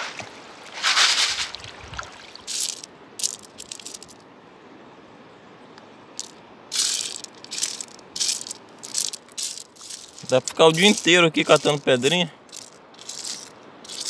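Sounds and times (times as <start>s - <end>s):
wet pebbles clattering and crunching: 0.0s - 4.2s, 6.2s - 14.0s.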